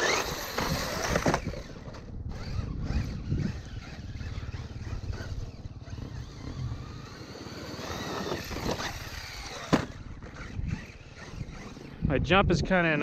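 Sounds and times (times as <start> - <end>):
electric motor whining: 0.0 - 12.1.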